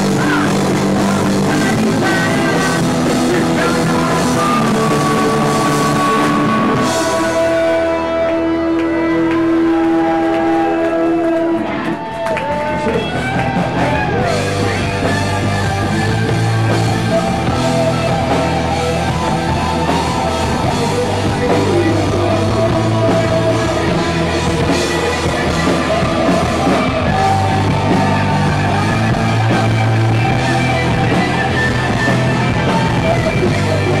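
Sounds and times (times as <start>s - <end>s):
rock music with electric guitar: 0.0s - 34.0s.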